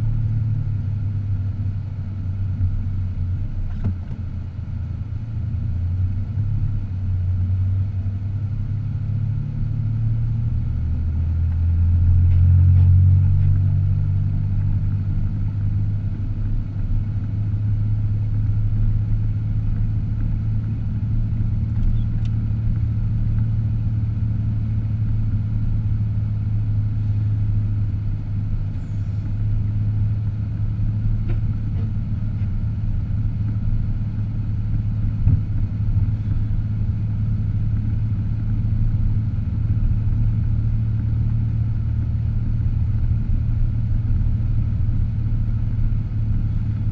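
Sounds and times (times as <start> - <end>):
car engine and road drone: 0.0 - 46.9.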